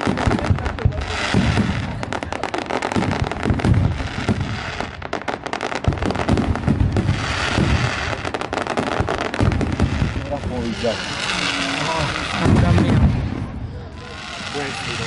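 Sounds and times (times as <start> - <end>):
deep fireworks booms: 0.0 - 15.0
fireworks crackling pops: 0.0 - 15.0.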